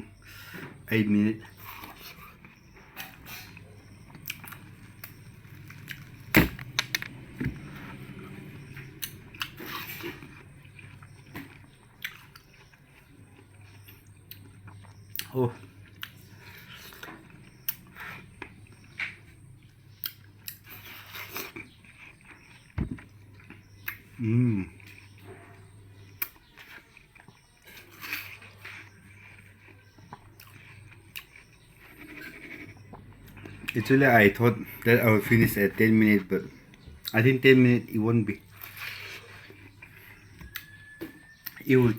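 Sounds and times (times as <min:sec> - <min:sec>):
wet chewing of watermelon: 0:01.4 - 0:41.9.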